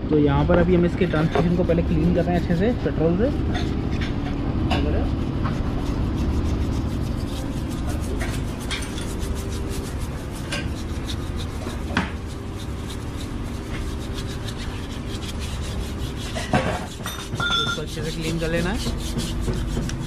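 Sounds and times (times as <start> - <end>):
steady low hum: 0.0 - 20.0
brush scrubbing metal housing: 0.6 - 20.0.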